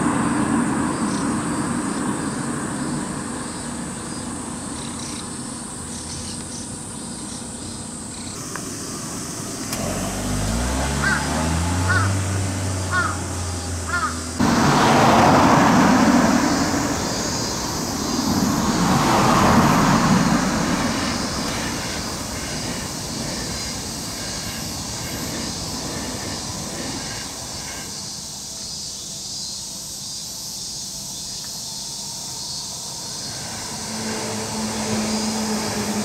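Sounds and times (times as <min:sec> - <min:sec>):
electric train running: 0:00.0 - 0:28.7, 0:32.0 - 0:36.0.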